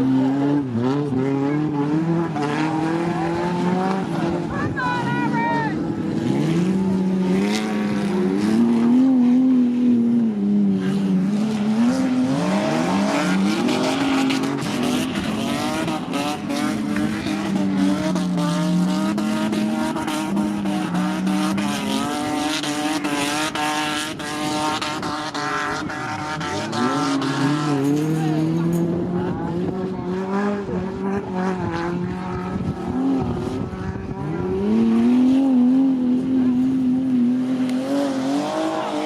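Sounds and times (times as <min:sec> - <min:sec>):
racing car engines revving: 0:00.0 - 0:39.0.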